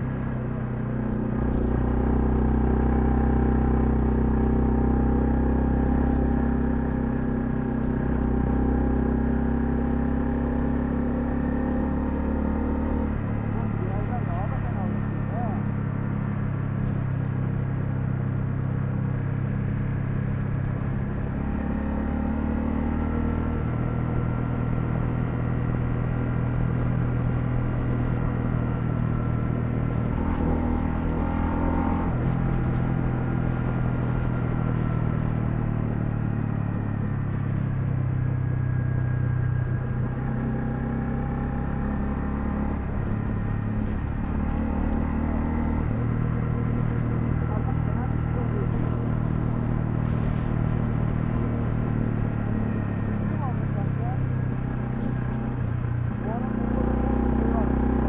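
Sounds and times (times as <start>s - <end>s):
motorcycle engine revving: 1.0s - 58.0s.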